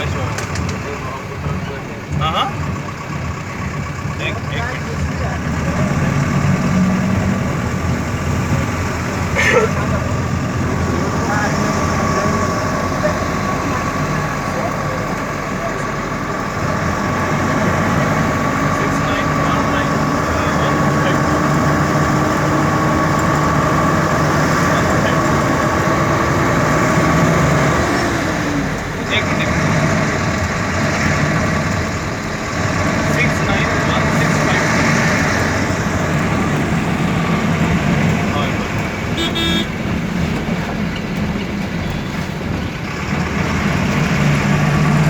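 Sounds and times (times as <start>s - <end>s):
engine running steadily: 0.0s - 45.0s
road noise: 0.0s - 45.0s.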